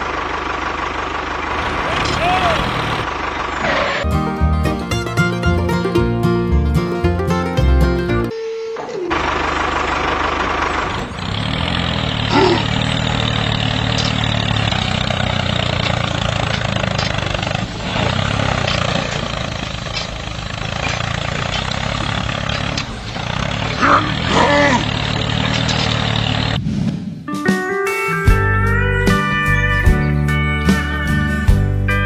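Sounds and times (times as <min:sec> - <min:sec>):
tractor engine running: 0:00.0 - 0:08.3, 0:09.1 - 0:26.6.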